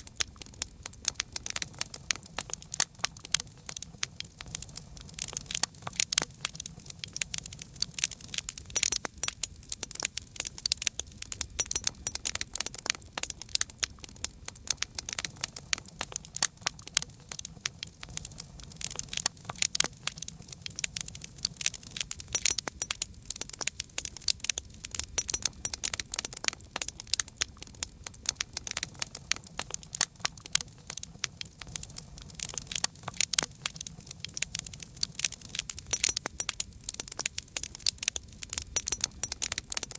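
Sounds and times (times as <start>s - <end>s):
burning wood crackling and popping: 0.0s - 39.9s
low rumble of flame: 0.0s - 39.9s.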